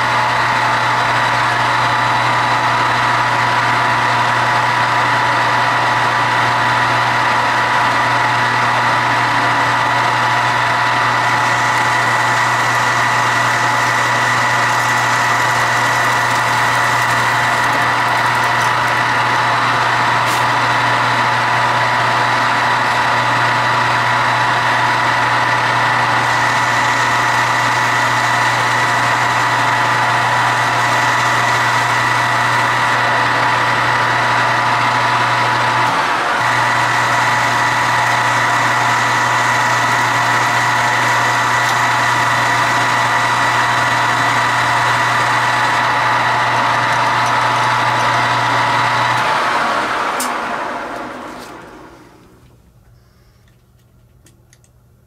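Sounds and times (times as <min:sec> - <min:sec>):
metal lathe humming: 0:00.0 - 0:52.5.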